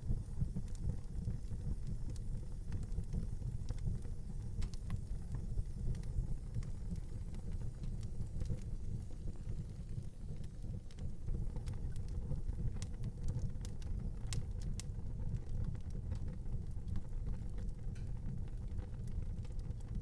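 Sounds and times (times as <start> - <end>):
fire crackles and pops: 0.0 - 20.0
wood fire burning: 0.0 - 20.0.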